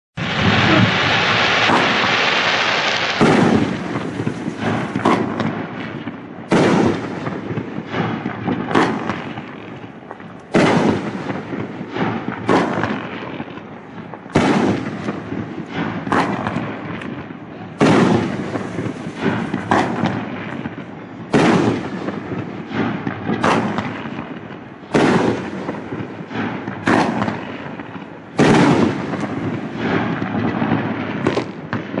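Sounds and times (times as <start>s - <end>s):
fireworks bangs: 0.2s - 32.0s.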